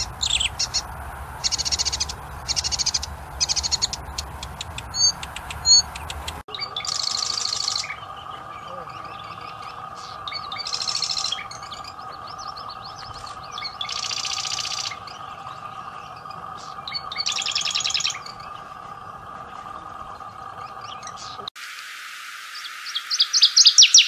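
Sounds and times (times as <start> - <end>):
songbird trilling: 0.0 - 21.5, 22.5 - 24.0
steady hum: 0.0 - 21.5
birds chirping softly: 0.0 - 21.6, 22.5 - 24.0.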